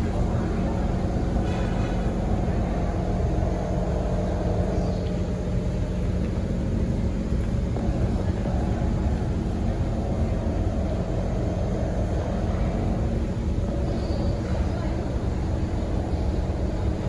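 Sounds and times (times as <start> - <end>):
train car equipment hum: 0.0 - 17.0.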